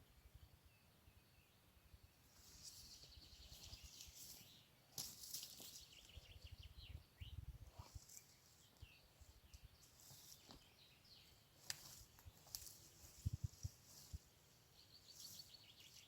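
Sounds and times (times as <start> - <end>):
bird chirps: 0.0 - 13.3, 14.7 - 16.0.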